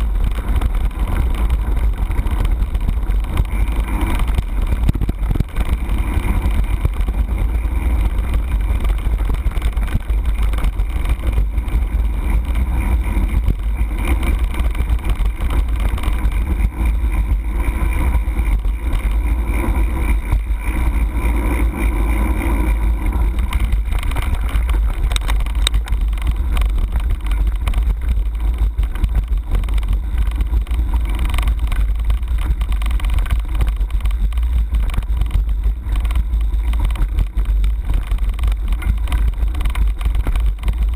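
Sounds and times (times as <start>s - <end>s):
bike rattling and knocking: 0.0s - 40.9s
wind buffeting microphone: 0.0s - 40.9s.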